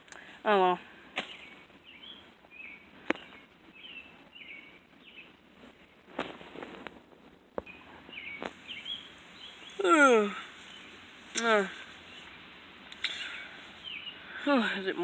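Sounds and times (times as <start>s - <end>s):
small birds chirping: 0.0s - 7.0s, 7.6s - 15.0s.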